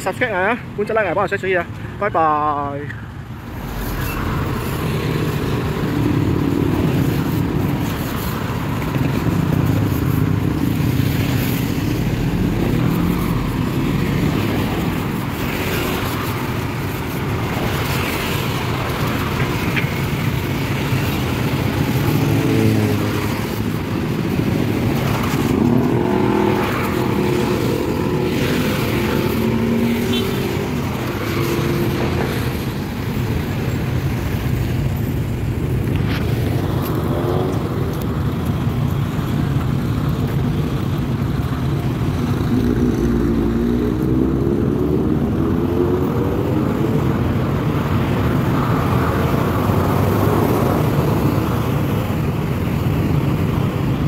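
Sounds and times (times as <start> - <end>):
cars and motorcycles driving: 0.0 - 54.0
engines accelerating: 3.3 - 34.9, 35.6 - 52.3.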